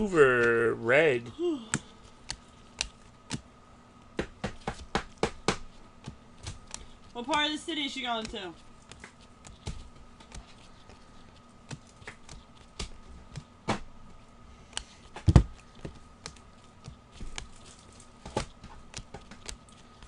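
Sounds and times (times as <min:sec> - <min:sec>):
faint steady hum: 0:00.0 - 0:20.0
cards clicking and tapping: 0:01.6 - 0:20.0.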